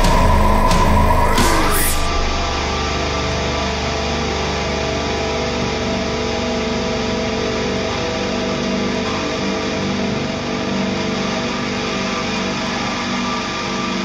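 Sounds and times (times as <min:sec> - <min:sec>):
distorted guitar feedback drone: 0:00.0 - 0:14.0.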